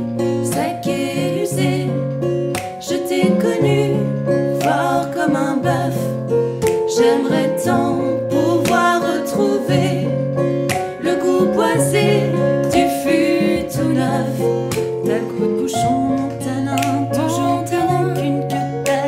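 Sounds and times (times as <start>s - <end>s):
acoustic guitar strumming: 0.0s - 18.0s
piano accompaniment: 0.0s - 19.0s
woman singing: 0.4s - 19.0s.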